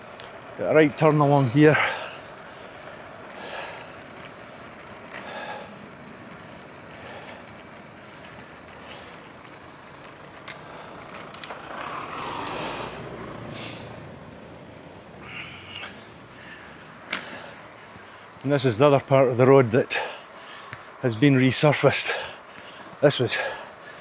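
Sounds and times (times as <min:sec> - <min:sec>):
bicycle road and wind noise: 0:00.0 - 0:24.0.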